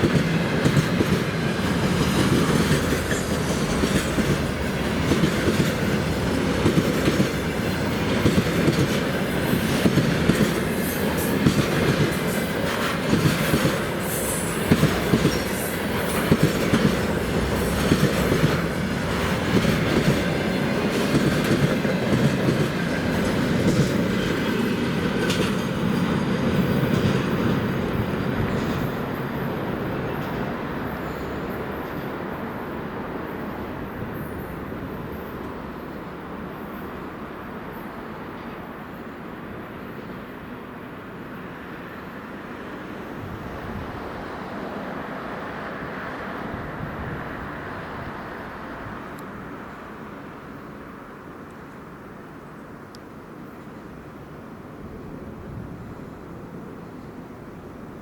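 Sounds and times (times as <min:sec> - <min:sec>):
freight train rumble: 0:00.0 - 0:58.0.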